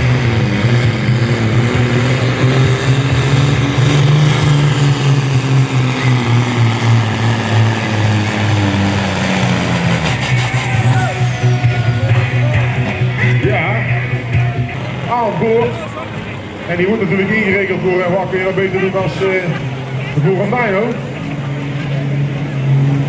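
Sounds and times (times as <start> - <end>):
truck diesel engine at high revs: 0.0 - 23.0.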